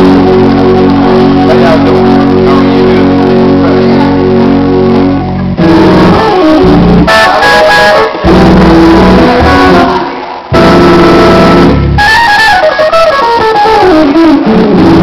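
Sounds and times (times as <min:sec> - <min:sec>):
organ playing loud chords: 0:00.0 - 0:15.0.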